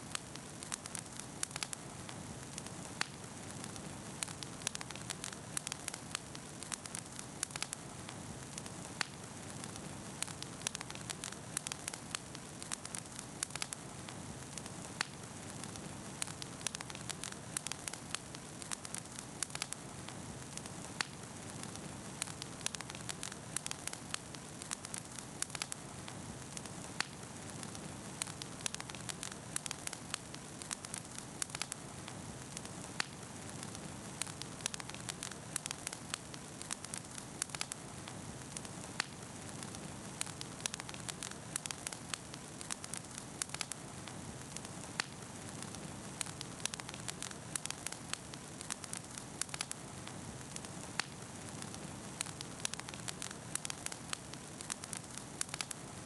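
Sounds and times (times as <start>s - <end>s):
bonfire popping and snapping: 0.0s - 56.0s
low rush of flames: 0.1s - 56.0s.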